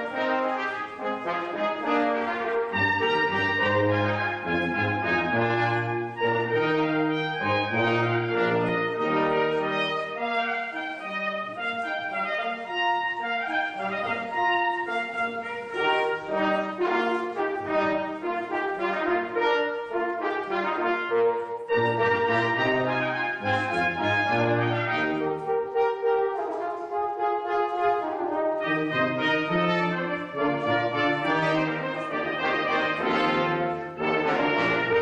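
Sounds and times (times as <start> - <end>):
brass quintet playing: 0.0 - 35.0
tuba deep bass notes: 0.0 - 35.0.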